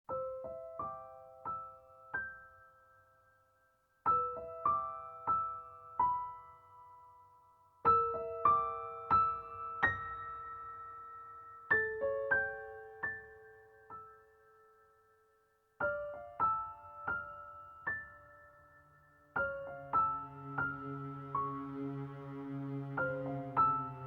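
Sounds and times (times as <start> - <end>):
gentle piano melody: 0.1 - 24.0.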